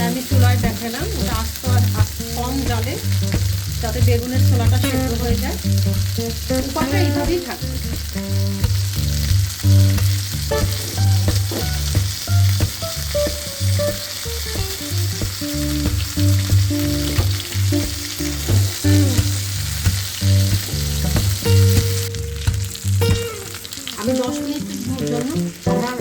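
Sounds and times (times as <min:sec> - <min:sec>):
music with pulsing bass: 0:00.0 - 0:23.7
eggplant sizzling in a pan: 0:00.0 - 0:26.0.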